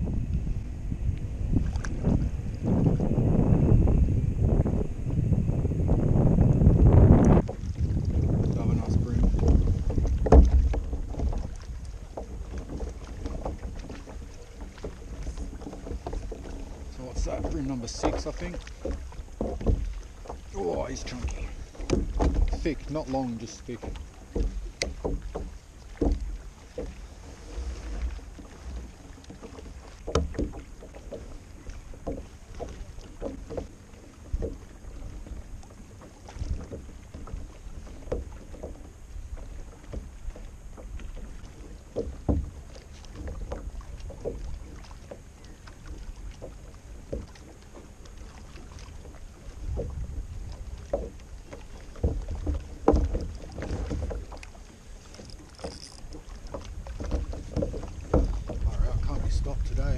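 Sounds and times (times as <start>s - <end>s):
wind rumble on microphone: 0.0s - 59.9s
knocks and taps on kayak: 6.4s - 59.9s.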